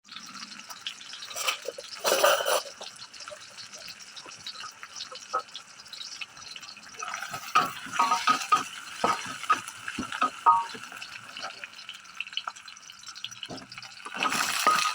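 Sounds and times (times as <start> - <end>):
water pouring: 0.1 - 5.5, 6.2 - 14.9.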